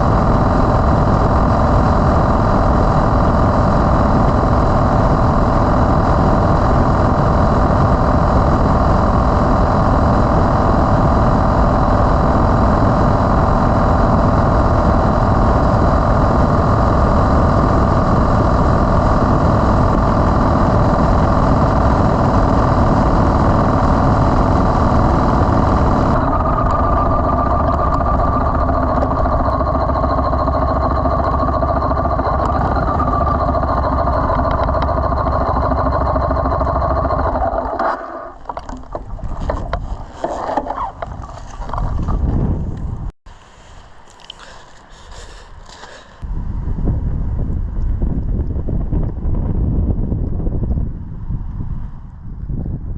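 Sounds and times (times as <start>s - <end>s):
motorcycle engine running: 0.0s - 43.1s.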